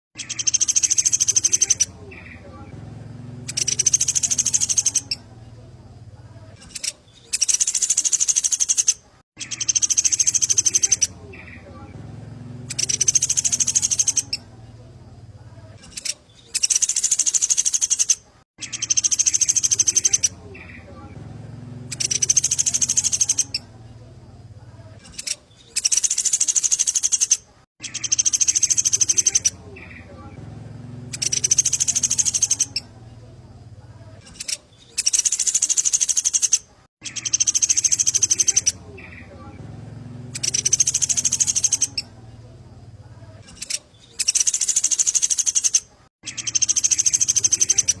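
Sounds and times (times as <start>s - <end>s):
songbird trilling: 0.2s - 5.4s, 6.6s - 14.9s, 15.8s - 23.8s, 25.0s - 30.4s, 31.0s - 33.0s, 33.9s - 42.3s, 43.2s - 48.0s.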